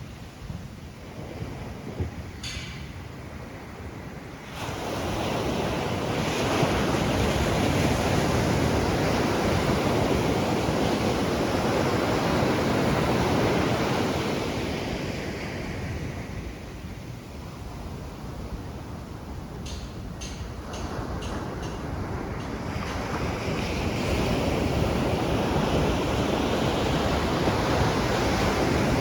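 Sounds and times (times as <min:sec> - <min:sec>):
ocean waves breaking: 0:00.0 - 0:29.0
wind on microphone: 0:00.0 - 0:29.0.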